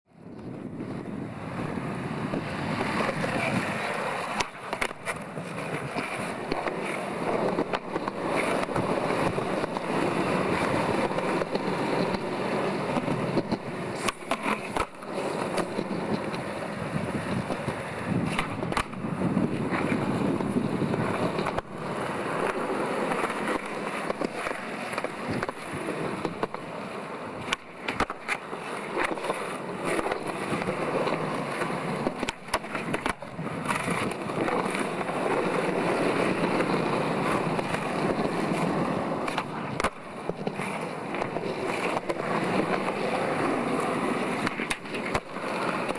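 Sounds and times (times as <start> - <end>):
skateboard wheels rolling on concrete: 0.0 - 45.9
skateboard clacking on ground: 0.2 - 45.9.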